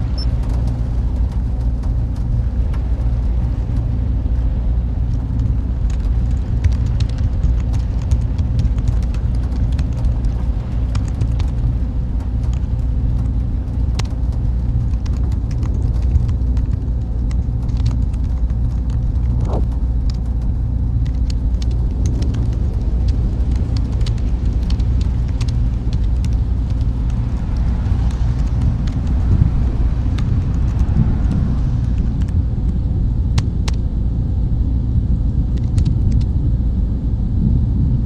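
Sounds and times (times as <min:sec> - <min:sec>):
machine fans humming: 0:00.0 - 0:38.0.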